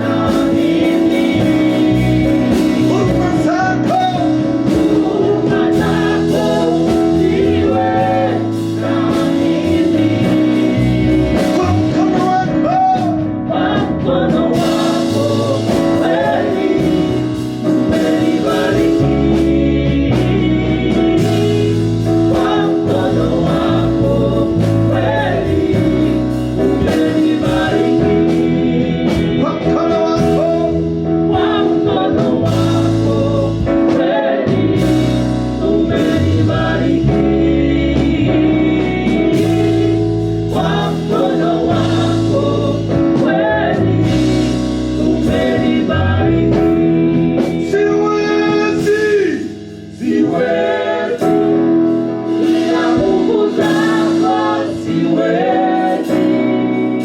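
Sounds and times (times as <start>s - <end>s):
bass line: 0.0s - 57.0s
live gospel band: 0.0s - 57.0s
voices singing: 0.0s - 57.0s.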